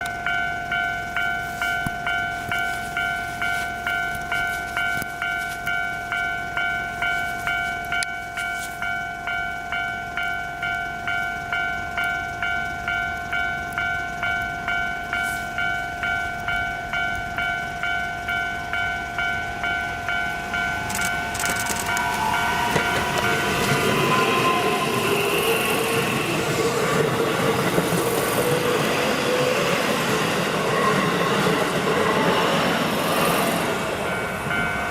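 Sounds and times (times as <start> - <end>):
electric train passing: 0.0 - 34.9
level-crossing bell clanging: 0.0 - 34.9.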